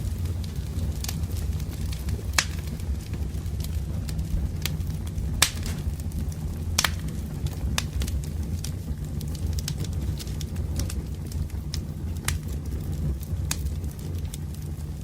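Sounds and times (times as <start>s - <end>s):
firewood crackling and popping: 0.0s - 15.0s
low rumble: 0.0s - 15.0s.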